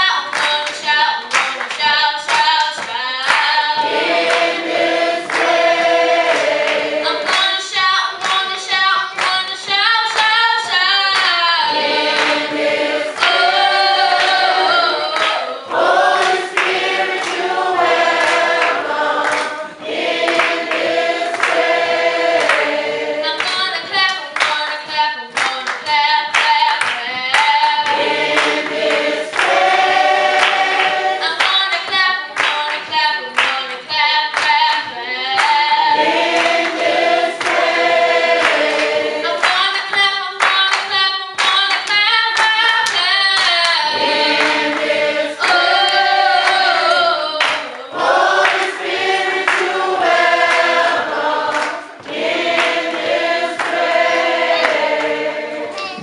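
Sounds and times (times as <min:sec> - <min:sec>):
gospel choir singing: 0:00.0 - 0:56.0.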